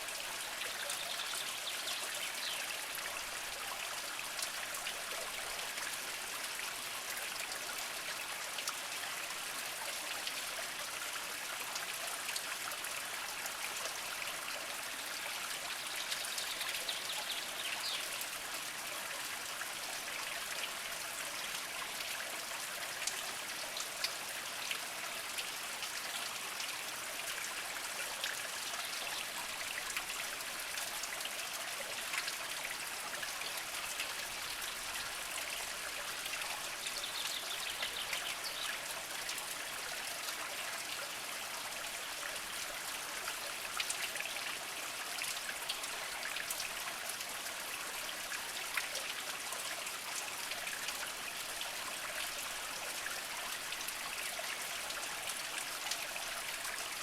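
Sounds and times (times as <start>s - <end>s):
spring water trickling over rocks: 0.0s - 57.0s
water drips and splashes: 0.0s - 57.0s.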